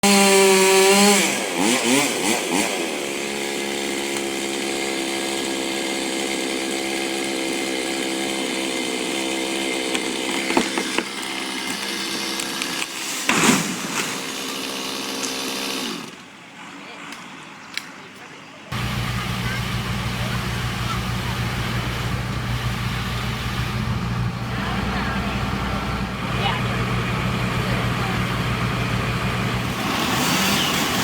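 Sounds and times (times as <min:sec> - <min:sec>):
chainsaw engine running: 0:00.0 - 0:16.3, 0:18.7 - 0:31.0.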